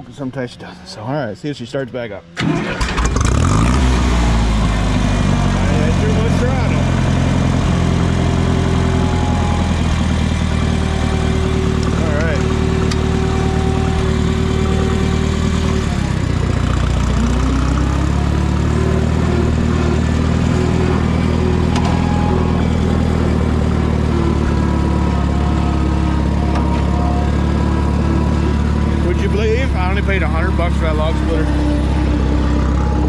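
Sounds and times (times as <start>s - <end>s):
tractor engine running: 1.5s - 33.0s.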